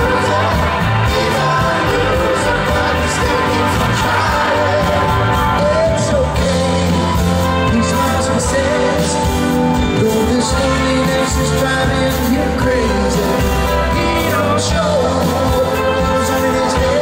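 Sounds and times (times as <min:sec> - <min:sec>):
person singing: 0:00.0 - 0:17.0
rock band playing: 0:00.0 - 0:17.0.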